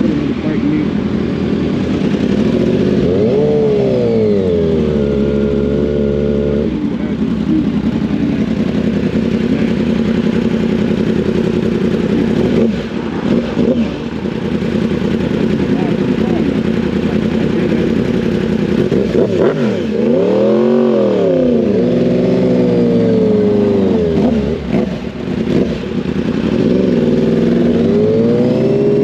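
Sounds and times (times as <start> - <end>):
motorcycle engine revving: 0.0 - 29.0
sportbike engines running: 0.0 - 29.0.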